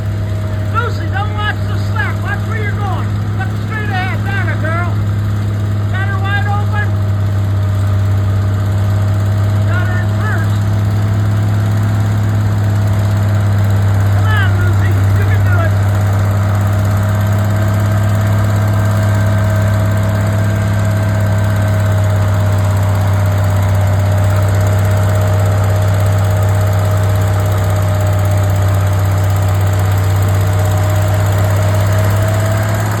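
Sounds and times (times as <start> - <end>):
tractor engine running under load: 0.0 - 33.0.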